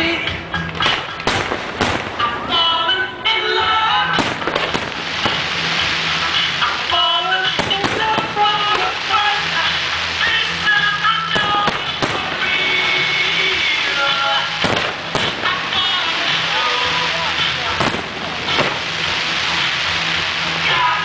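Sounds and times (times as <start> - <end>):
fireworks crackling: 0.0 - 2.8, 4.1 - 21.0
music playing: 0.0 - 21.0
fireworks bursting: 0.7 - 2.5, 4.2 - 21.0.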